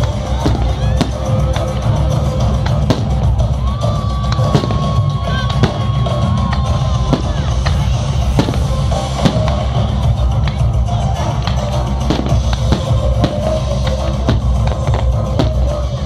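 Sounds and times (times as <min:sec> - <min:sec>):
firework bangs: 0:00.0 - 0:16.0
loud music with heavy drum beat: 0:00.0 - 0:16.0.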